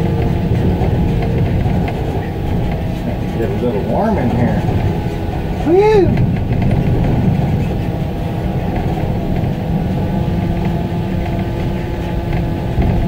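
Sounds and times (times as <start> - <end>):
light rattles: 0.0 - 13.0
low rumble of tyres: 0.0 - 13.0.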